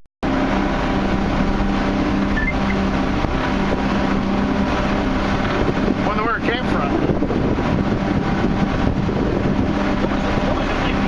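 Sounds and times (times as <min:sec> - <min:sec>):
motorboat engine running: 0:00.2 - 0:11.0
water noise: 0:00.2 - 0:11.0
wind: 0:00.2 - 0:11.0.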